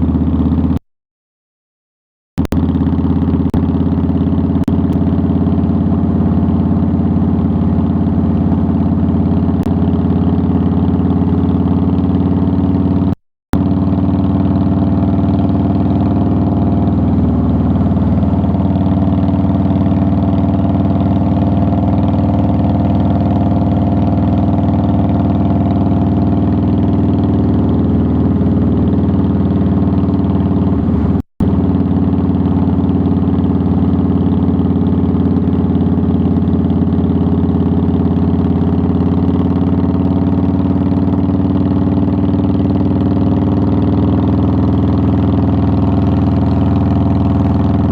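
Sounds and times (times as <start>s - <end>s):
motorcycle engine idling: 0.0s - 0.8s, 2.4s - 47.9s.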